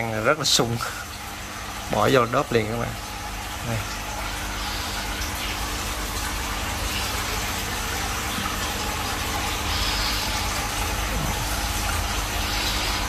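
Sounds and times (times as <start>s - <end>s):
aquarium filter humming: 0.0s - 13.0s
water rushing: 0.0s - 13.0s.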